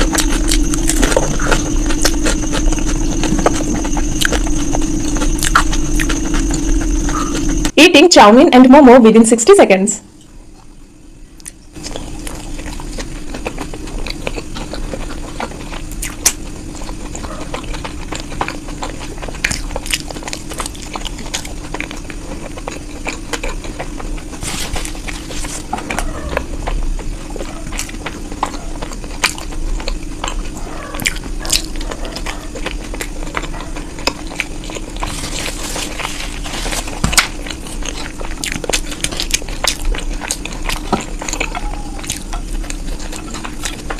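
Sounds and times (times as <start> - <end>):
person chewing food: 0.0 - 7.8, 10.4 - 43.9
steady low hum: 0.0 - 43.9.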